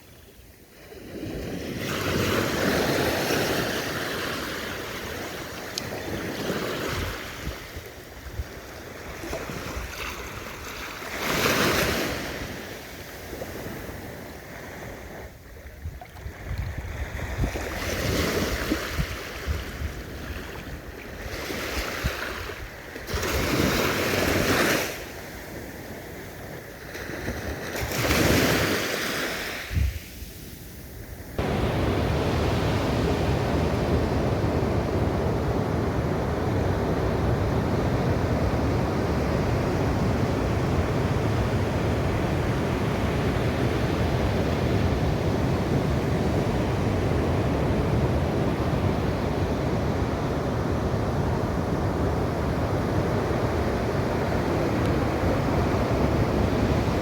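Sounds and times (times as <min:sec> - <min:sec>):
steady wash of surf: 0:00.0 - 0:15.6, 0:16.8 - 0:57.0
ocean waves breaking: 0:00.7 - 0:15.4, 0:16.2 - 0:57.0.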